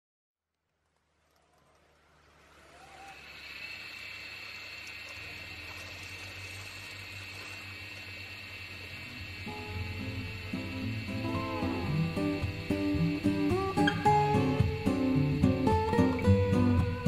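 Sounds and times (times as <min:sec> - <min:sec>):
electric fan motor humming: 0:00.5 - 0:17.0.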